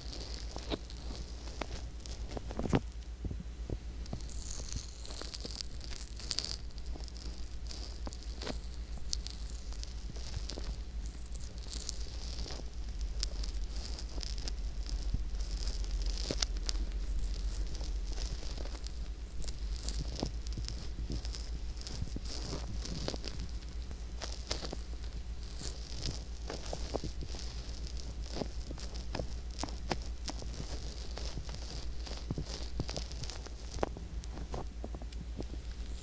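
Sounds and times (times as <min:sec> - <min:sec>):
fingertips rubbing microphone: 0:04.1 - 0:36.0.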